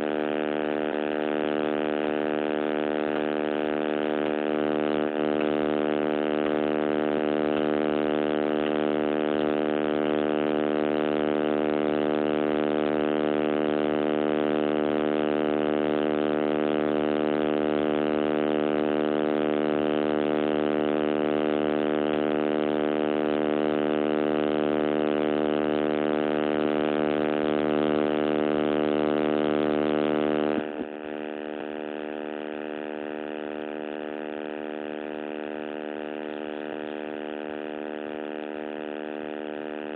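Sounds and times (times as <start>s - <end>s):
electrical buzz: 0.0s - 39.9s.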